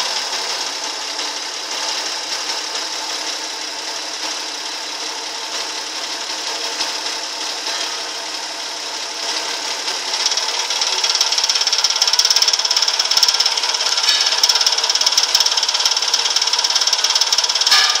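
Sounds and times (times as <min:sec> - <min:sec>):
car engine idling with knocking: 0:00.0 - 0:18.0.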